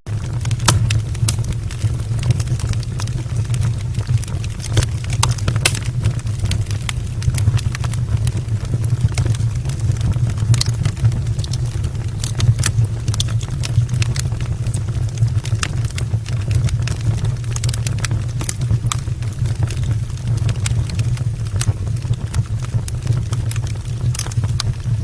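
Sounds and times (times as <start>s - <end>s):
fire crackling and popping: 0.1s - 25.0s.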